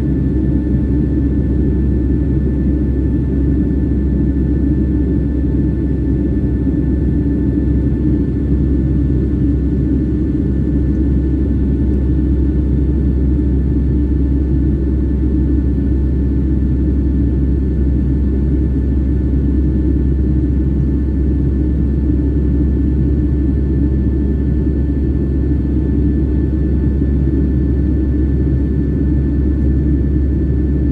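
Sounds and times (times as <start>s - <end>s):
airliner engine rumble: 0.0s - 30.9s
faint steady whine: 0.0s - 30.9s.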